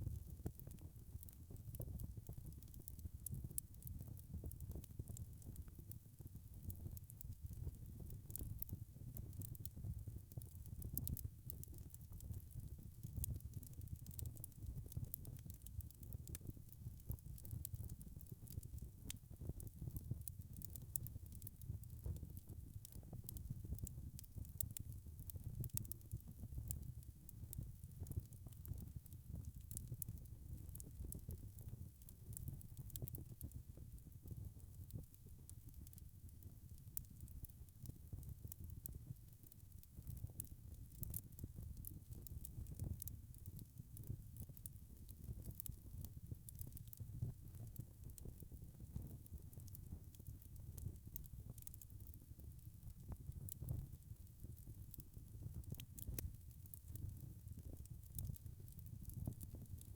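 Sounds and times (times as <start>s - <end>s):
low rumble of burning wood: 0.0s - 59.9s
fire pops and snaps: 6.6s - 36.0s, 37.0s - 52.2s, 53.0s - 59.9s.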